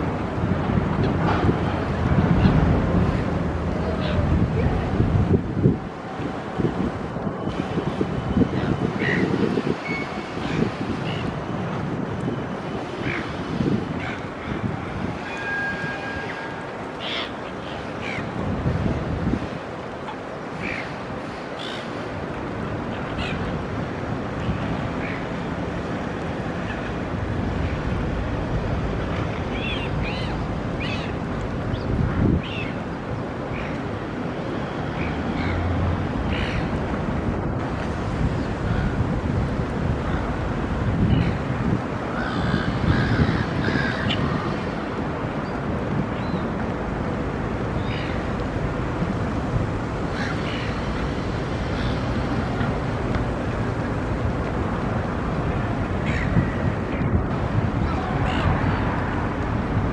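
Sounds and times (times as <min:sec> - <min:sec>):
city noise rumble: 0:00.0 - 0:59.9
wind on microphone: 0:00.0 - 0:59.9.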